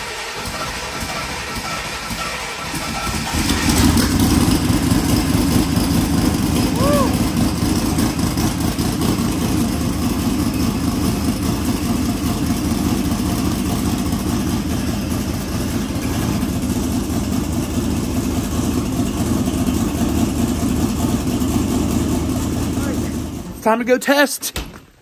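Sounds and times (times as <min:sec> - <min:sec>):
race car engine idling: 0:00.0 - 0:23.8.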